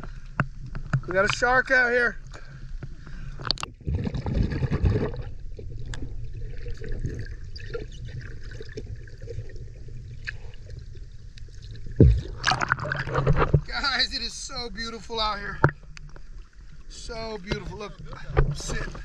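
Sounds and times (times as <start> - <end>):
muffled underwater sloshing: 0.0 - 19.0
low underwater rumble: 2.4 - 19.0.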